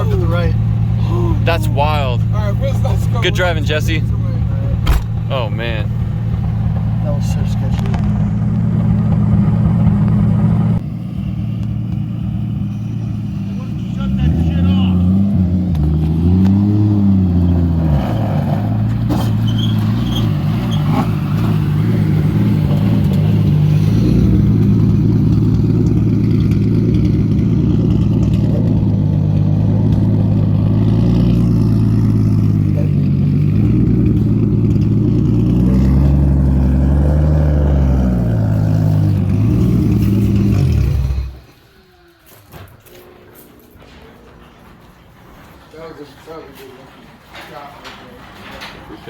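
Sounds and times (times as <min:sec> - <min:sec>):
car engine revving: 0:00.0 - 0:41.6.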